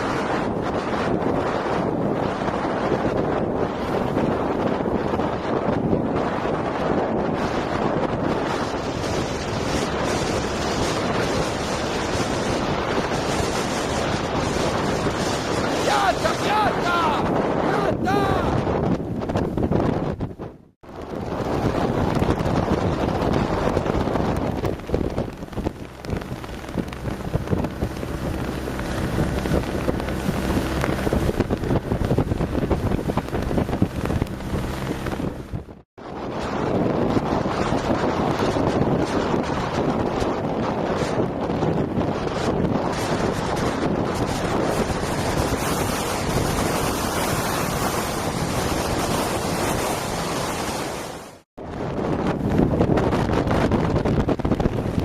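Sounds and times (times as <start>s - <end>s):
water splashing along hull: 0.0s - 17.5s, 19.0s - 55.0s
wind buffeting microphone: 0.0s - 55.0s.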